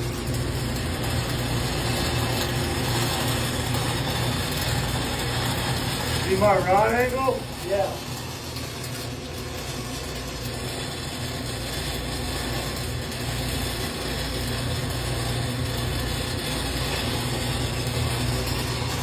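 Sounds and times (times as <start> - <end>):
welding arc crackling hiss: 0.0 - 19.0.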